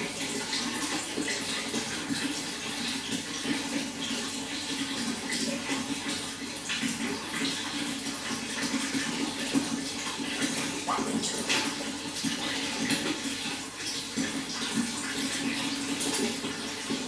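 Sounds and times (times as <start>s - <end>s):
running water: 0.0s - 17.0s
small water splashes: 0.0s - 17.0s.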